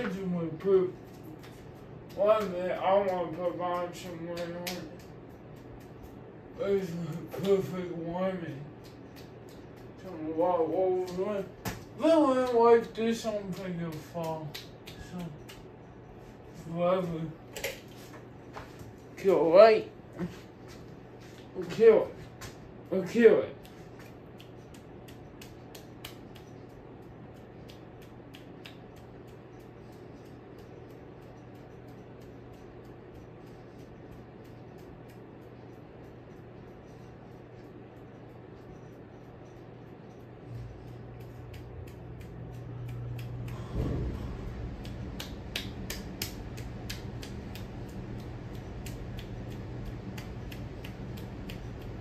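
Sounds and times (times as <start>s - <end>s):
ceiling fan motor hum: 0.0s - 52.0s
fan ticking: 0.0s - 52.0s.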